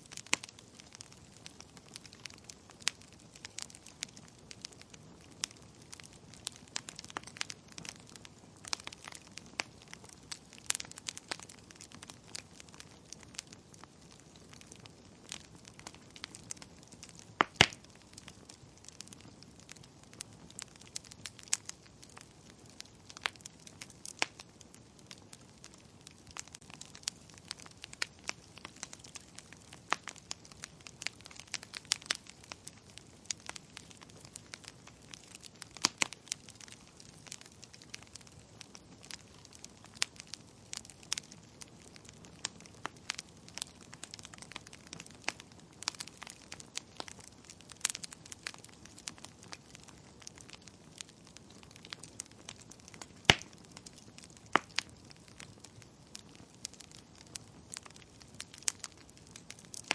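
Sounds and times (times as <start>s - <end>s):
fire pops and snaps: 0.0s - 59.9s
soft fire hiss: 0.0s - 59.9s
wood fire crackling: 0.0s - 59.9s.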